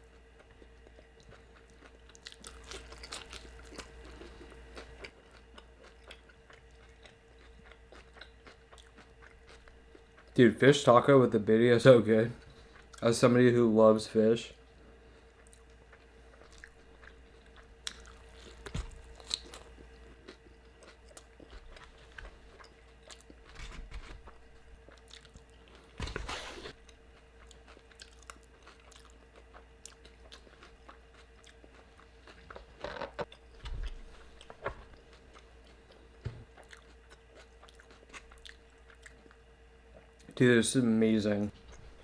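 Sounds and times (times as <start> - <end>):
faint steady hum: 0.0 - 42.0
person chewing and biting food: 0.2 - 10.4, 15.2 - 40.2.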